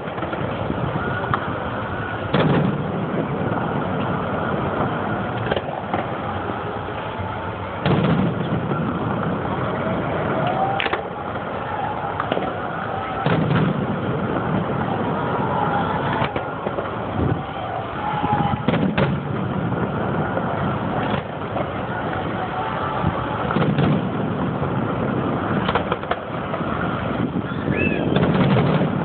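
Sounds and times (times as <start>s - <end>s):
fireworks bursting with booms: 0.0s - 29.0s
steady background noise: 0.0s - 29.0s.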